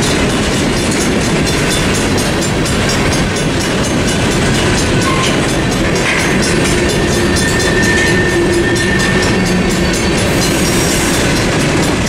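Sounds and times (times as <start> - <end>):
crossing warning bells: 0.0 - 12.0
train wheels rumbling on rails: 0.0 - 12.0.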